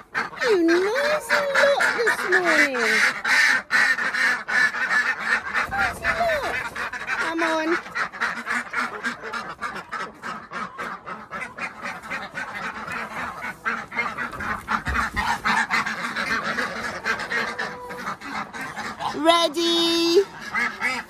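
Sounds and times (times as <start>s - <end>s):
ducks and geese quacking and honking: 0.0s - 21.0s.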